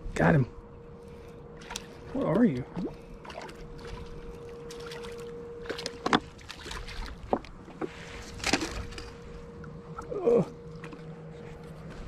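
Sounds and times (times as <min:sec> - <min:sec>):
faint steady hum: 0:00.0 - 0:12.0
water splashing and sloshing: 0:01.0 - 0:12.0.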